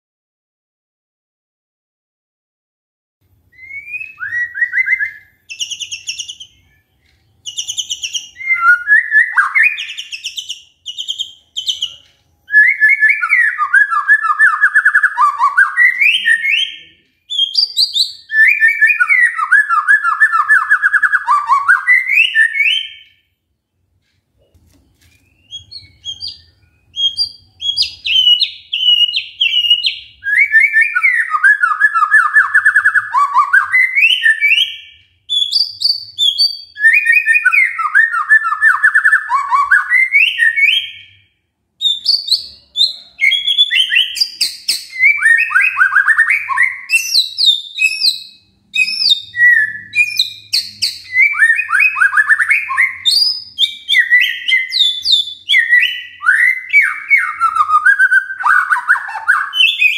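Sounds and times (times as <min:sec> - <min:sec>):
bird singing with trills: 0:03.5 - 0:23.7, 0:24.9 - 0:59.9.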